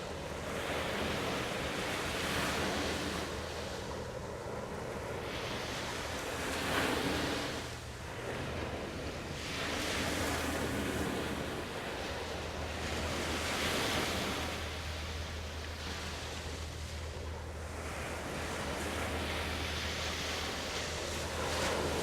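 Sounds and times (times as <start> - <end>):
steady low hum: 0.0 - 22.0
waves washing in: 0.0 - 22.0.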